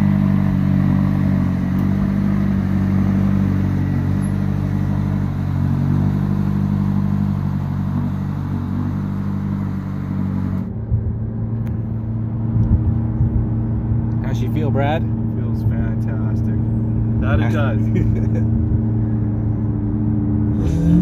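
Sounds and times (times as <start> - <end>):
car engine idling: 0.0 - 20.7
engine and road noise in car cabin: 0.0 - 21.0.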